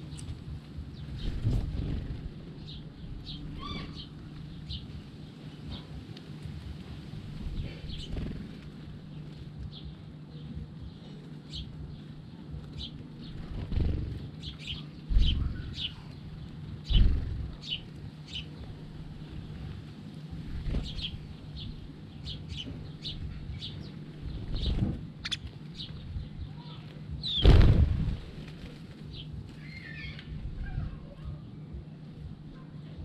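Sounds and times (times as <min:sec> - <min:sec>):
sparrows chirping: 0:00.0 - 0:33.0.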